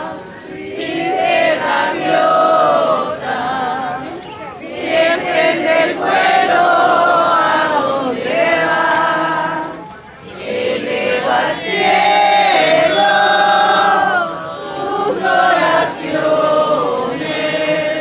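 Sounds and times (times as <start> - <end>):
group singing a hymn: 0.0 - 18.0.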